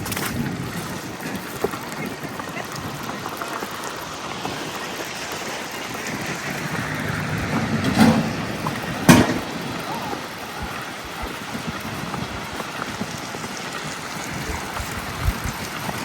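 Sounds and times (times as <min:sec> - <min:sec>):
wet street hiss: 0:00.0 - 0:16.0.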